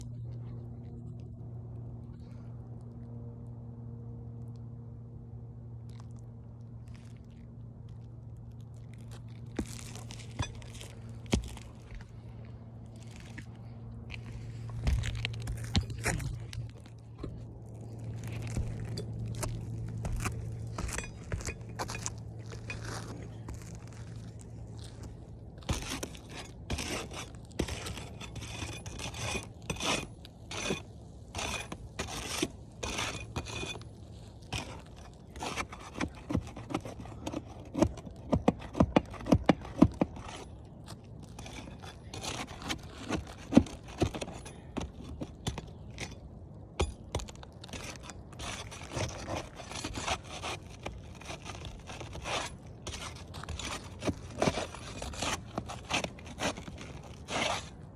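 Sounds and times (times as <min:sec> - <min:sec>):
low steady hum: 0:00.0 - 0:57.9.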